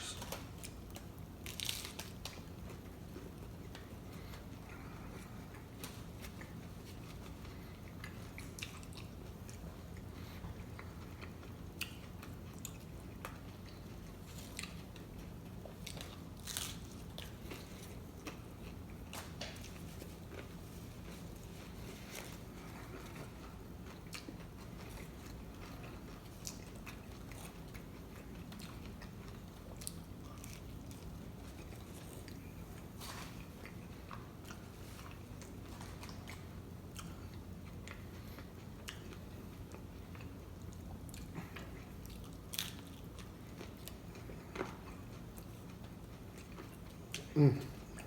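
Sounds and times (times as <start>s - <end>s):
chewing and biting food: 0.0s - 48.0s.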